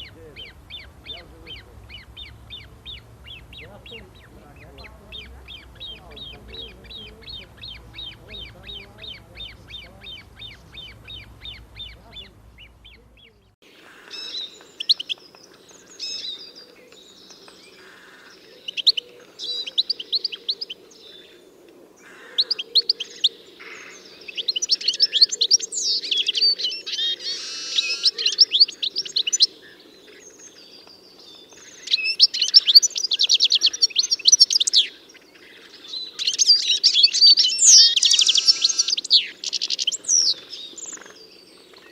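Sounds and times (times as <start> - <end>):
birds trilling songs: 0.0 - 41.9
small birds chirping: 0.0 - 41.9.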